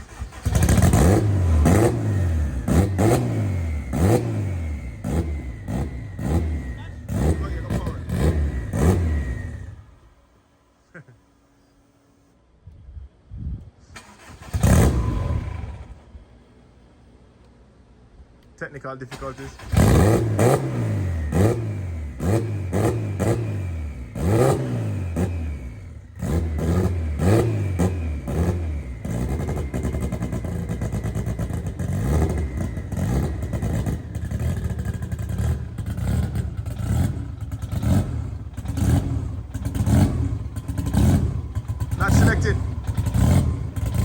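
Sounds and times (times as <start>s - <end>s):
car engine revving: 0.0s - 10.5s, 14.0s - 16.4s, 19.1s - 44.0s.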